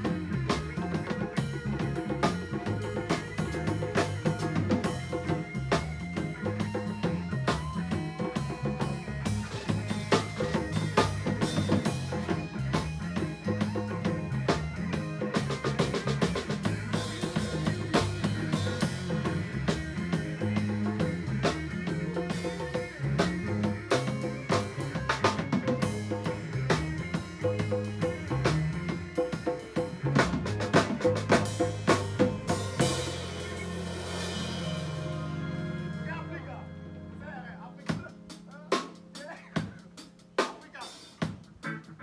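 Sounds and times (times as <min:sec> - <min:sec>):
bass line: 0:00.0 - 0:40.4
drum kit beat: 0:00.0 - 0:42.0
electric guitar: 0:00.0 - 0:42.0
keyboard: 0:00.0 - 0:42.0.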